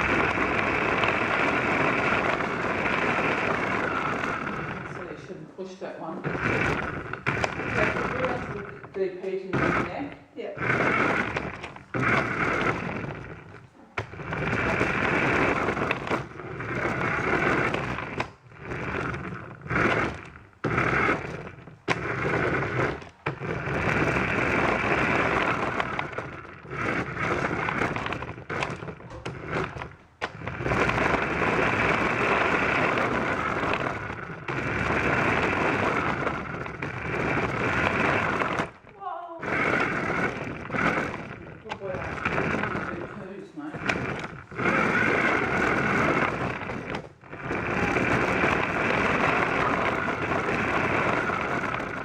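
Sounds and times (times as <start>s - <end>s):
toy car electric motor whirring: 0.0s - 5.4s, 6.2s - 52.0s
wheels rolling over floor: 0.0s - 52.0s.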